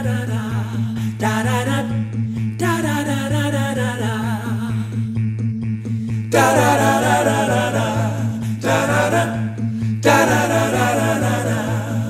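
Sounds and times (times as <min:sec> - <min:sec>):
a cappella voices singing: 0:00.0 - 0:05.2, 0:06.1 - 0:12.0.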